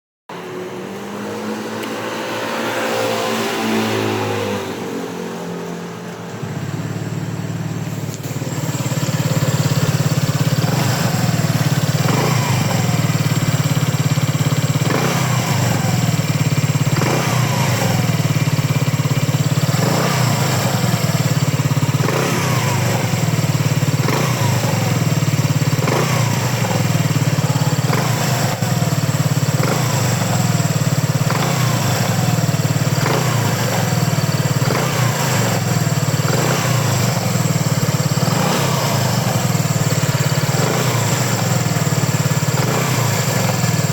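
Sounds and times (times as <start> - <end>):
scooter engine revving: 0.3 - 43.9.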